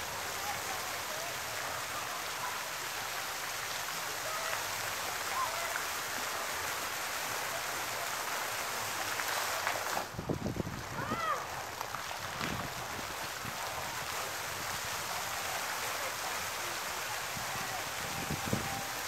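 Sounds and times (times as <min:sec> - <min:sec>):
fountain jet splashing: 0:00.0 - 0:19.0.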